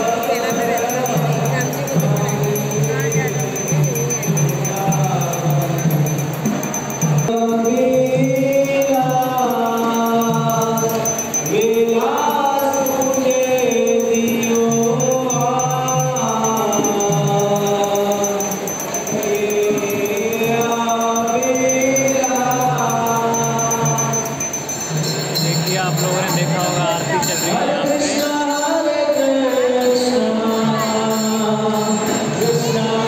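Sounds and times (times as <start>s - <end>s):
group singing devotional chant: 0.0s - 33.0s
hand cymbals ticking: 0.0s - 33.0s.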